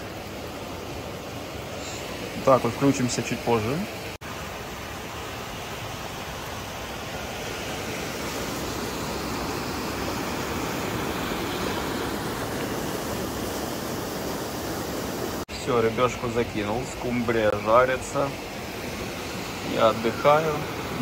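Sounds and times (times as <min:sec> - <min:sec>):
rushing mountain river: 0:00.0 - 0:21.0.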